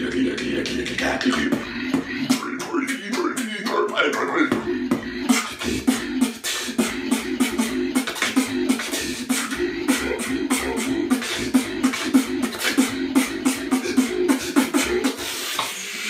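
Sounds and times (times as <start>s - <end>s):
beatboxing drum strikes: 0.0s - 16.0s.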